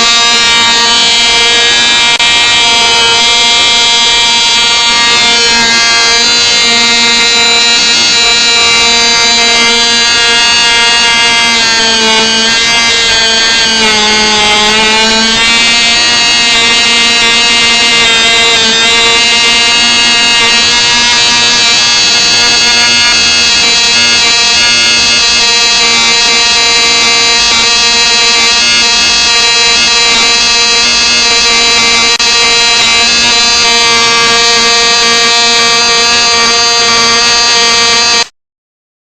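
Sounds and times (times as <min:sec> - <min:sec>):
model engine high-pitched running: 0:00.0 - 0:38.3.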